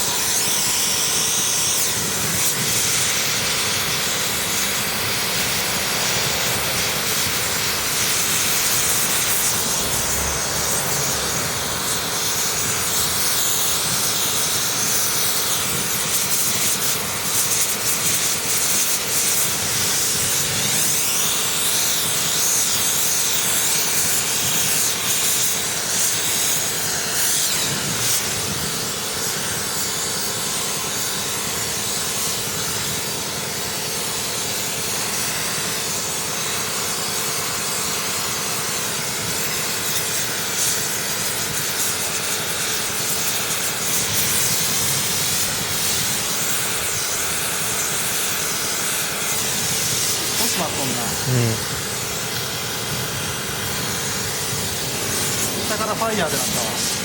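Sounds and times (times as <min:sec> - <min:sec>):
rushing hiss of blown air: 0:00.1 - 0:29.5, 0:39.8 - 0:57.0.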